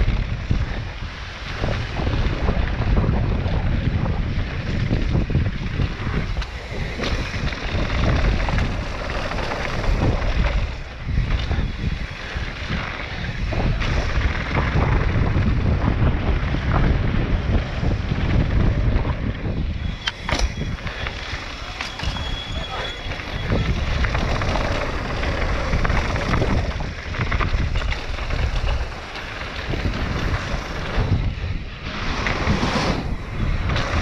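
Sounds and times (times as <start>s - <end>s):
bike jolting clacks: 0.0s - 34.0s
wind on microphone: 0.0s - 34.0s
tyres rattling over gravel: 1.5s - 34.0s.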